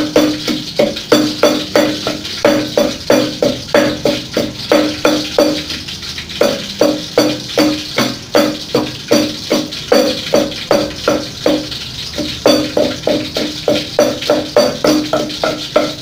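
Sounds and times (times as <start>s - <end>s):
wooden pestle pounding in mortar: 0.0s - 16.0s.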